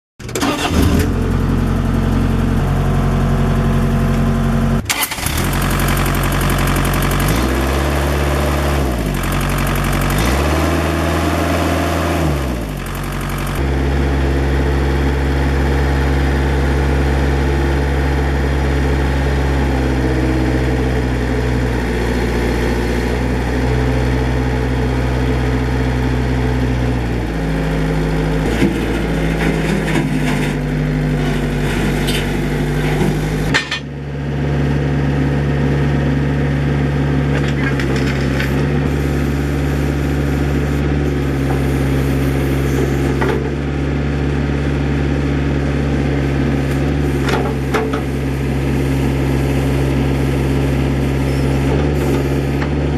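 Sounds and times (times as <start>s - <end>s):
diesel engine revving: 0.2s - 52.9s.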